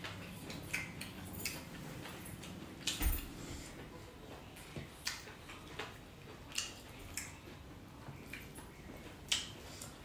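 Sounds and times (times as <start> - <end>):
people chewing food: 0.0 - 10.0.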